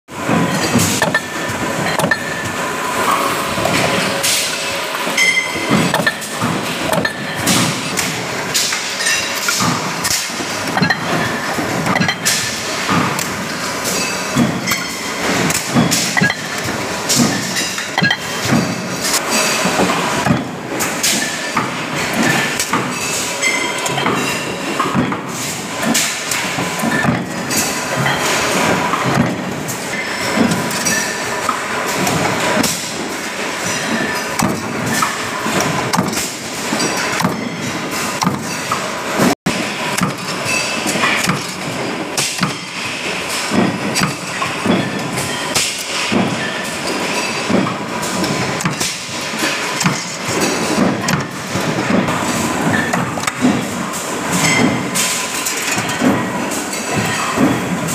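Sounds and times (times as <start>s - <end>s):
workshop din: 0.1s - 57.9s.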